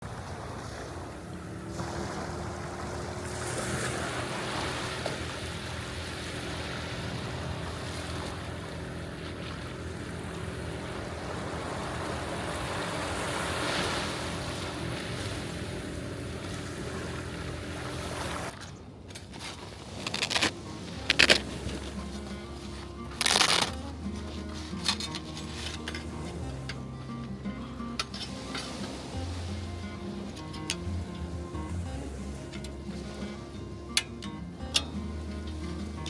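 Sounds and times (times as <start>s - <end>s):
low engine drone: 0.0s - 18.8s, 20.1s - 36.0s
ocean waves breaking: 0.0s - 36.0s.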